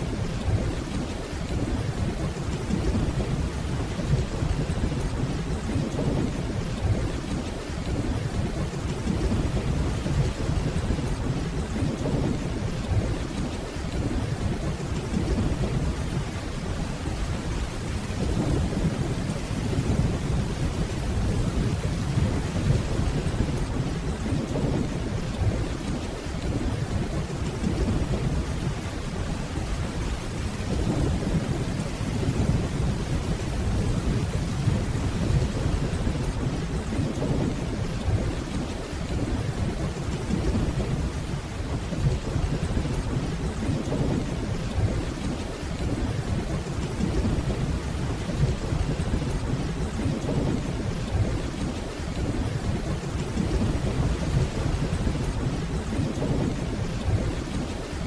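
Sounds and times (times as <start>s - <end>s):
distant thunder rumble: 0.0s - 57.8s
steady rainfall: 0.0s - 58.0s.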